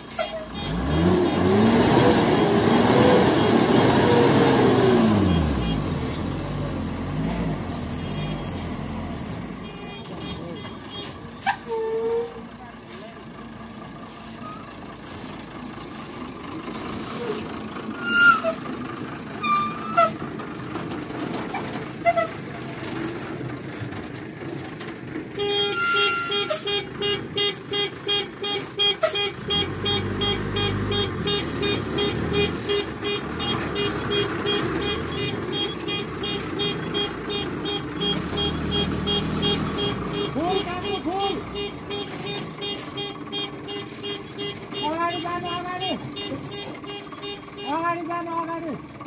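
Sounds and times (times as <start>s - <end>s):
dump truck engine rumble: 0.0s - 49.0s.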